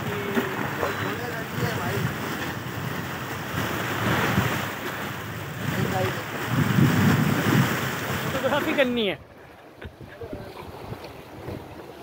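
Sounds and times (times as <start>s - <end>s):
waves splashing against rocks: 0.0s - 12.0s
wind rumbling on microphone: 0.0s - 12.0s.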